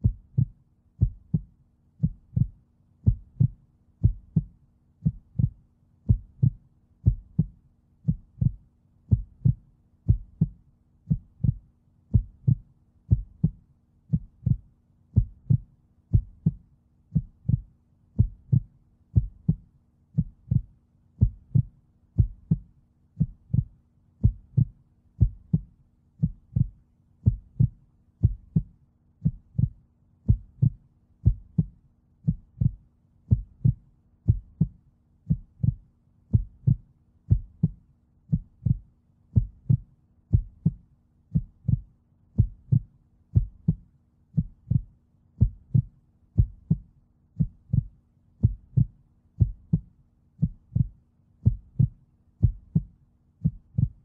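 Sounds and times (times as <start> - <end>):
faint low hum: 0.0 - 54.0
heartbeat thumps: 0.0 - 54.0.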